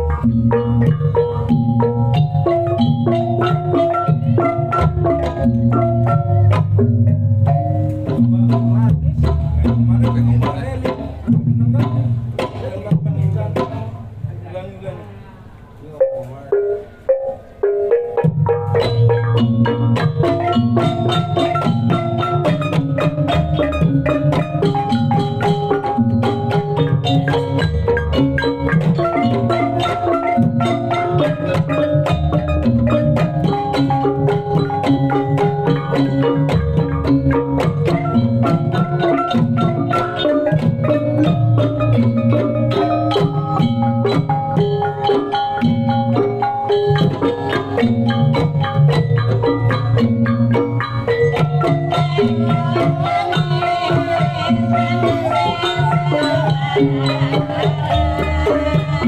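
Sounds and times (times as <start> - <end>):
drums: 0.0 - 59.0
gamelan mallet instruments: 0.0 - 59.0.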